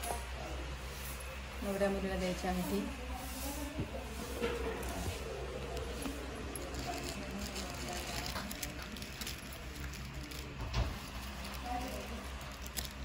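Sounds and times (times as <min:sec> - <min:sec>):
faint distant voices: 0:00.0 - 0:13.0.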